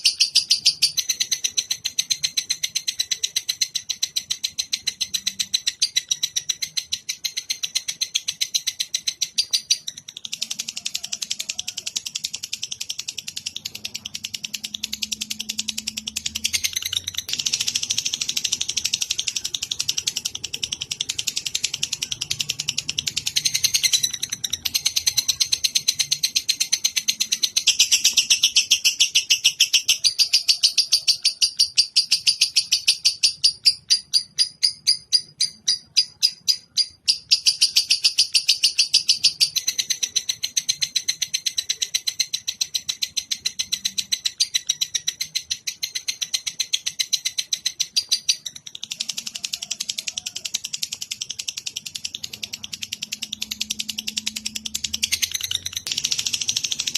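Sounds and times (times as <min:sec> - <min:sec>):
bird trilling rapid chirps: 0:00.0 - 0:56.9.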